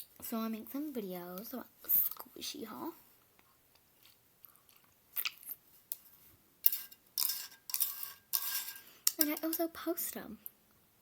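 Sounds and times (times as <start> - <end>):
scratchy rustling handling noise: 0.7 - 9.7.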